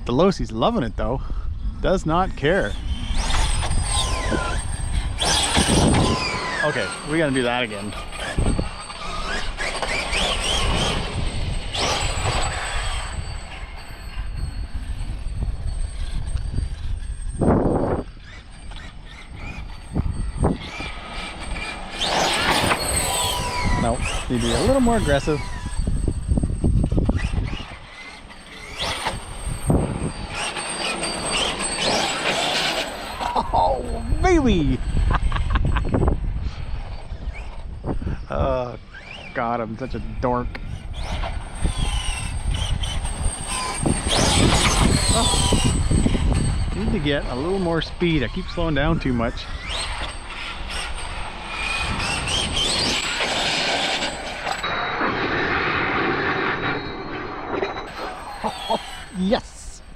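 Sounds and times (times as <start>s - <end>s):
electric motor whine: 1.3s - 59.9s
tyre and drivetrain noise: 2.6s - 38.2s, 38.9s - 59.4s.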